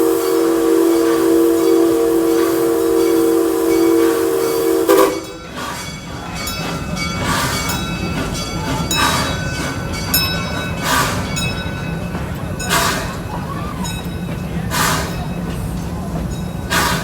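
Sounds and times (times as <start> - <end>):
low locomotive rumble: 0.0 - 17.0
steam exhaust hissing: 0.0 - 17.0.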